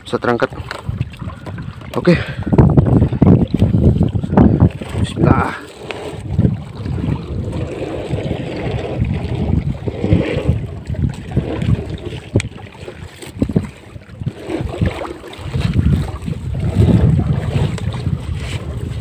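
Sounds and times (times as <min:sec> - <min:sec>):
wet net hauled over boat: 0:00.0 - 0:19.0
wind buffeting microphone: 0:00.0 - 0:19.0.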